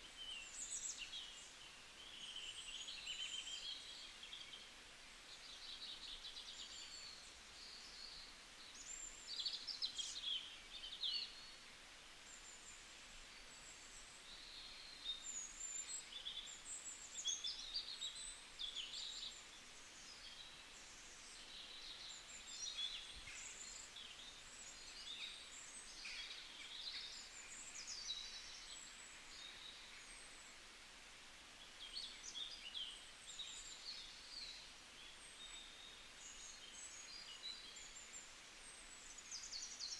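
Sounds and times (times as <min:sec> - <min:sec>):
faint birds chirping: 0:00.0 - 0:39.9.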